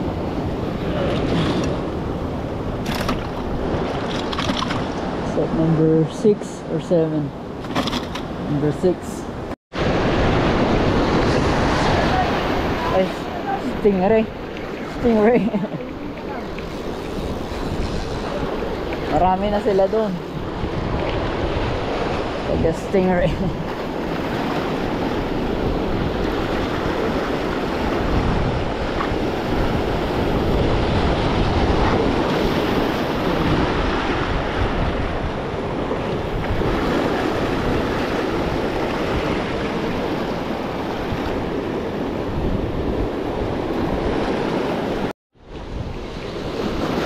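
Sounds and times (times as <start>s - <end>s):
wind rumbling on microphone: 0.0s - 6.1s, 6.7s - 47.0s.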